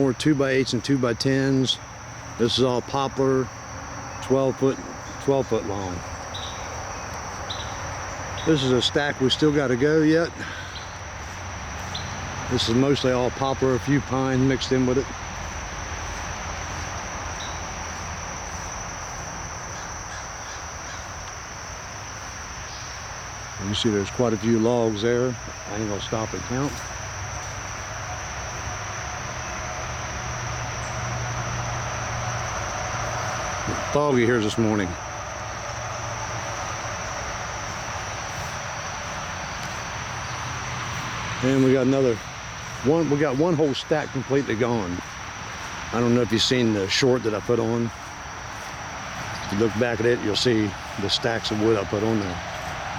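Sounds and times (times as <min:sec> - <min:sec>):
background hiss: 0:00.0 - 0:52.9
high-pitched insect drone: 0:00.0 - 0:52.9
insect chorus: 0:00.0 - 0:52.9.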